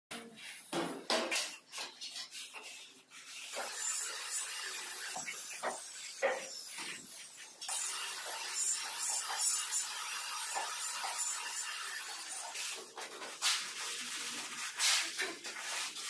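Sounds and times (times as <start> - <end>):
hand tools scraping mortar: 1.8 - 16.0.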